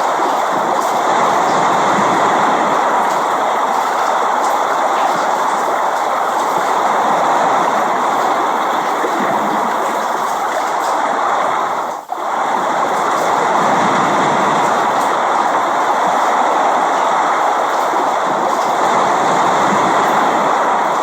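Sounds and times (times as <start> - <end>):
dense rainfall: 0.0 - 21.0.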